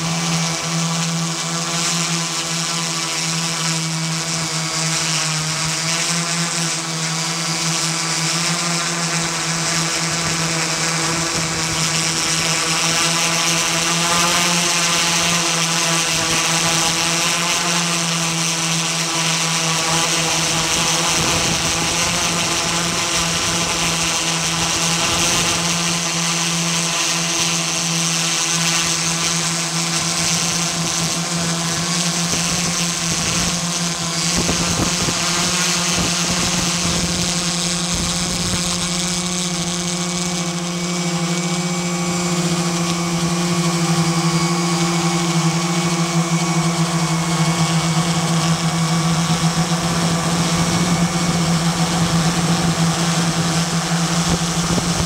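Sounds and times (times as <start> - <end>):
drone motors buzzing: 0.0 - 55.0.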